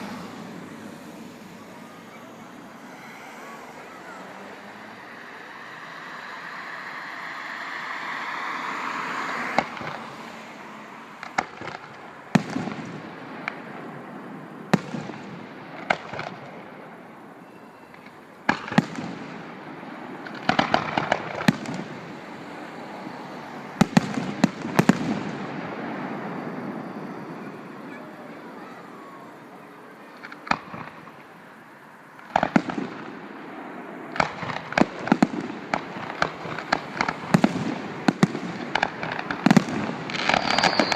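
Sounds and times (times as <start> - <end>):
firework hiss: 0.0 - 40.9.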